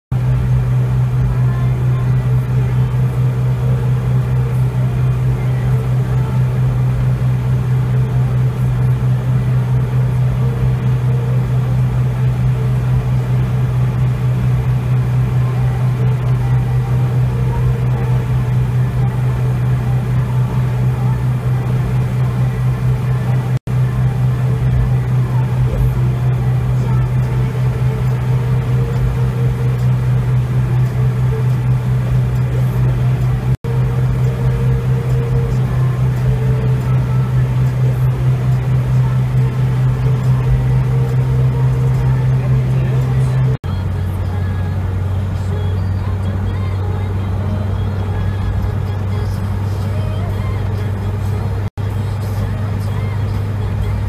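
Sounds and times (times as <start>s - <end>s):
car engine and road drone: 0.0s - 54.0s.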